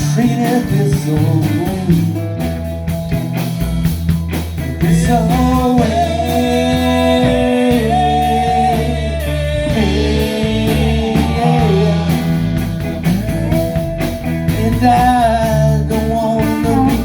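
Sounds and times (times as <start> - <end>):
person singing: 0.0 - 2.2, 4.8 - 17.0
bass guitar: 0.0 - 17.0
drums: 0.0 - 17.0
electric guitar: 0.0 - 17.0.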